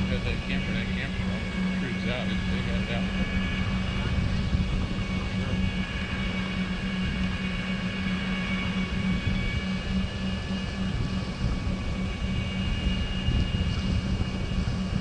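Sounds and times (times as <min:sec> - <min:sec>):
high whining drive tones: 0:00.0 - 0:15.0.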